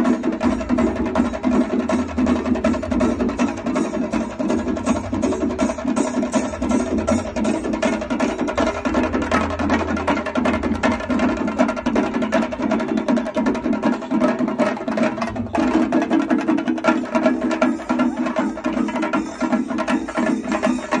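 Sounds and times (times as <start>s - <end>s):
drum ensemble beaten with sticks: 0.0s - 21.0s.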